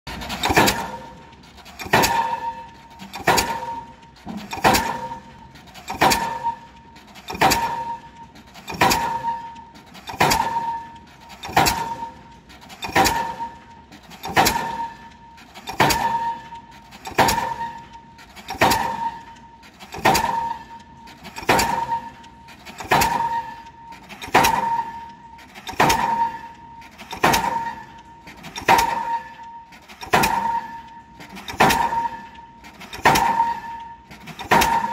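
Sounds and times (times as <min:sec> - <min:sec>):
pile hammer metallic clangs: 0:00.1 - 0:34.9.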